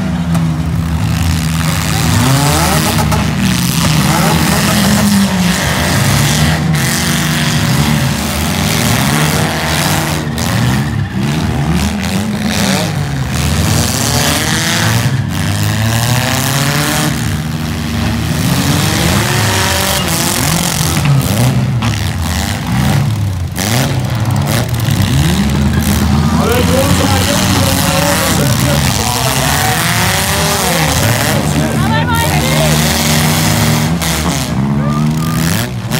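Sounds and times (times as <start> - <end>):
car engines revving: 0.0 - 35.9.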